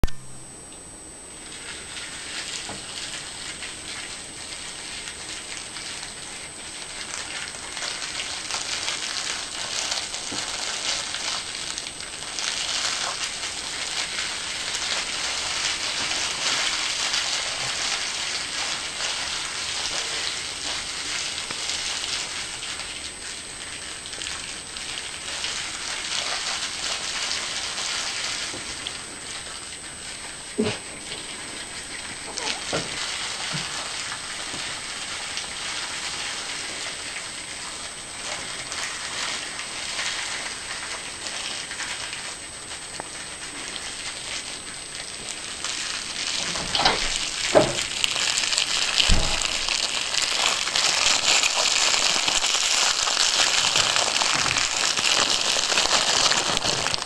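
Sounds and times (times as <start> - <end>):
plastic shrink-wrap crinkling: 1.4 - 57.0.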